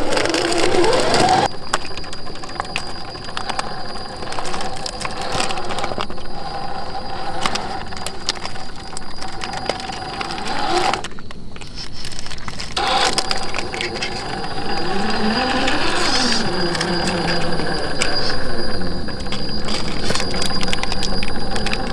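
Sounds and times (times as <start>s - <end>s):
electric motor whining: 0.0s - 11.3s, 12.7s - 21.9s
stones crackling under tyres: 0.0s - 21.9s.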